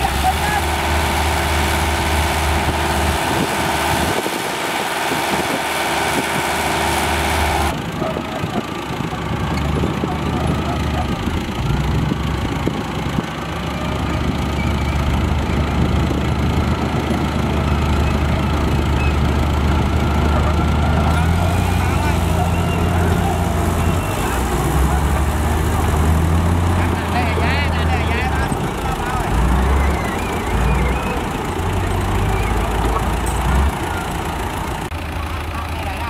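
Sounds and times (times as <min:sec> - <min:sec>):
bulldozer diesel engine idling: 0:00.0 - 0:36.0
bulldozer diesel engine running: 0:00.0 - 0:36.0.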